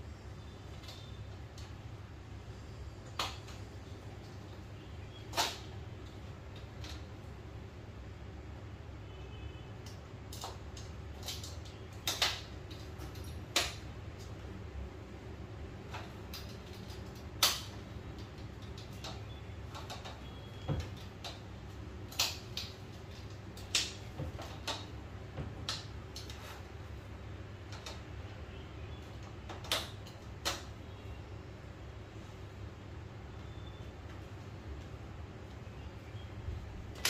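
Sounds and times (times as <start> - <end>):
low room hum: 0.0 - 37.0.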